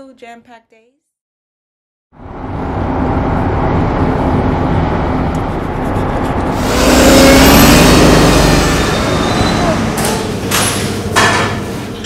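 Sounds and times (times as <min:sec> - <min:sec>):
bus engine passing by: 0:02.2 - 0:12.0.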